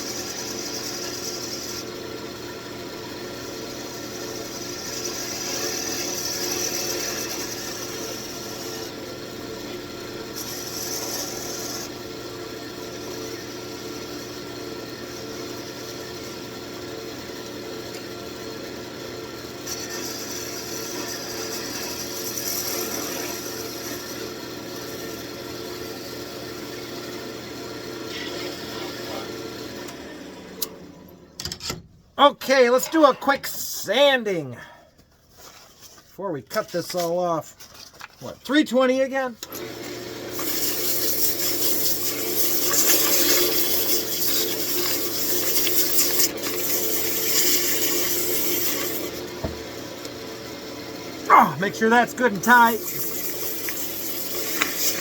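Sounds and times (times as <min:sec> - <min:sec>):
wood lathe running: 0:00.0 - 0:30.7, 0:38.8 - 0:55.0
turning tool cutting wood: 0:00.0 - 0:30.8, 0:38.5 - 0:55.0.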